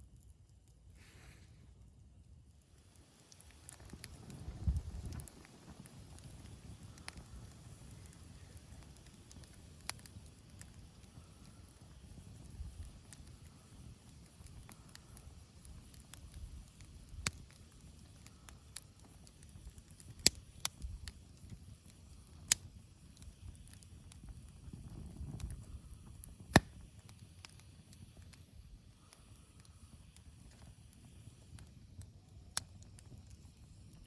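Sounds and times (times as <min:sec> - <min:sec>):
campfire crackling: 0:00.0 - 0:34.0
sharp pops of burning wood: 0:02.6 - 0:34.0.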